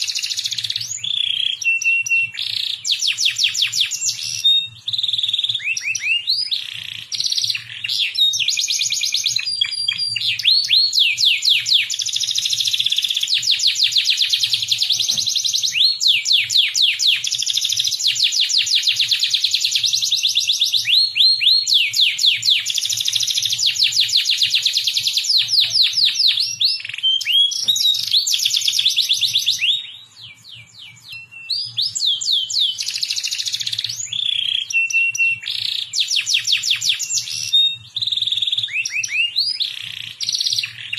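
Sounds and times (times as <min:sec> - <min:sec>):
canary singing rapid trills: 0:00.0 - 0:40.9.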